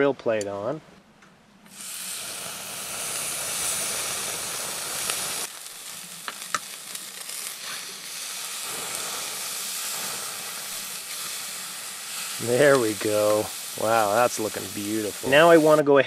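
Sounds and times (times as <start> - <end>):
steak sizzling on grill: 1.7 - 15.8.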